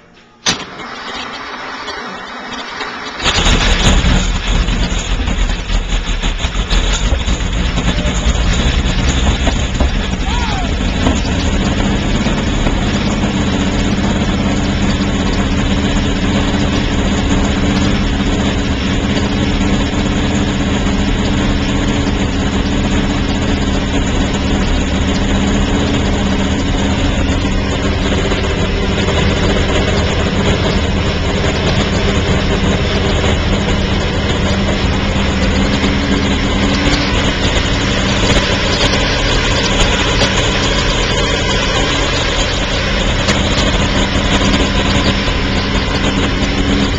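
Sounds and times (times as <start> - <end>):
racing engine idling: 0.0 - 46.9.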